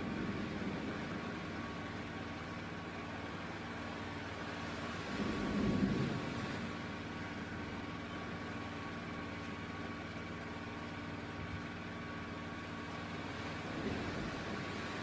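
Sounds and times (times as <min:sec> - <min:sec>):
constant hiss: 0:00.0 - 0:15.0
engine hum: 0:00.0 - 0:15.0.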